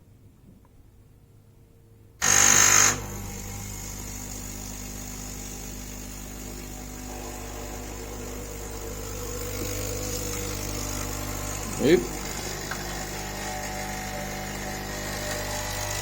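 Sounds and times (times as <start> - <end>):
coffee machine loud buzz: 2.2 - 16.0
coffee machine pump humming: 2.2 - 16.0.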